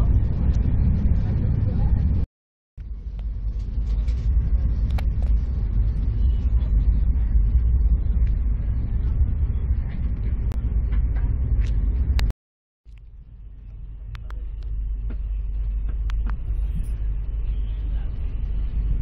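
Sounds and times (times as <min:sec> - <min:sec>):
train rumble from inside coach: 0:00.0 - 0:02.2, 0:02.8 - 0:12.3, 0:13.0 - 0:19.0.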